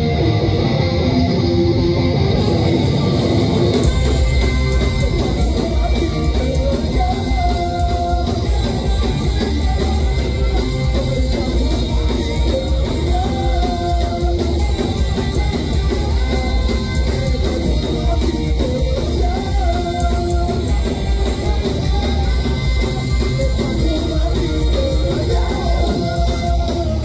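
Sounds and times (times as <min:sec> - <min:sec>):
live rock band: 0:00.0 - 0:27.0
sung vocals: 0:02.9 - 0:27.0.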